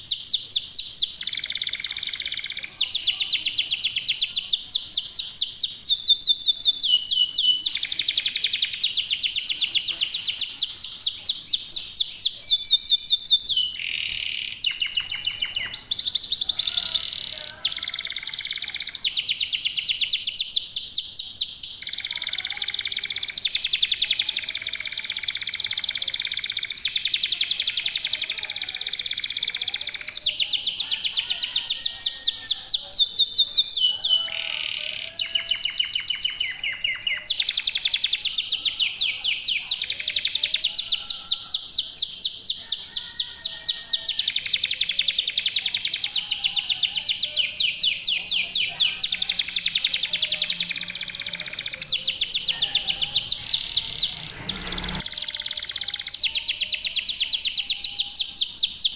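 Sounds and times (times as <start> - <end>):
canaries singing trills: 0.0 - 58.9.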